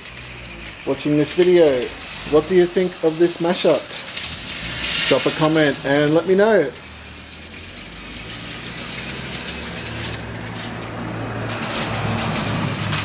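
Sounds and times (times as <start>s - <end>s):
toy train motor hum: 0.0s - 13.0s.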